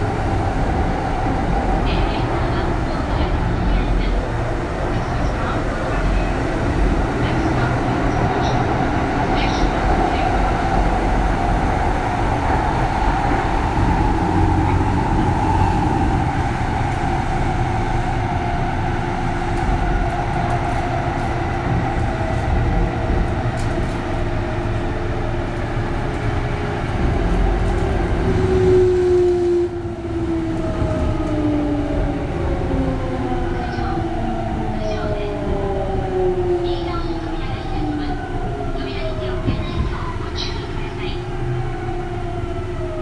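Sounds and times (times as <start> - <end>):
wheel and track rumble: 0.0 - 43.0.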